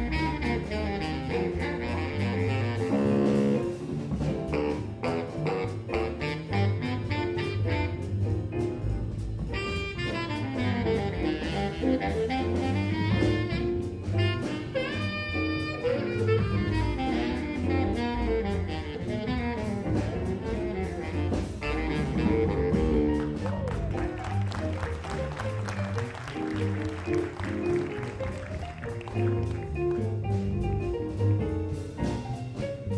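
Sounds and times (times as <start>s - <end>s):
jazz saxophone with bass and drums: 0.0s - 32.9s.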